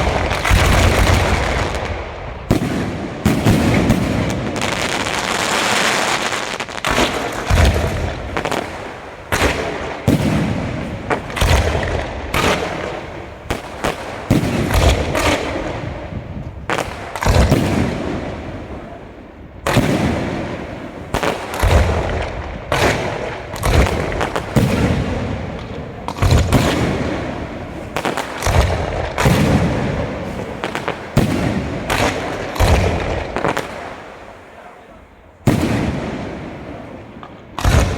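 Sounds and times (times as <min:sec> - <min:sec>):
fireworks bursting with booms: 0:00.0 - 0:37.9.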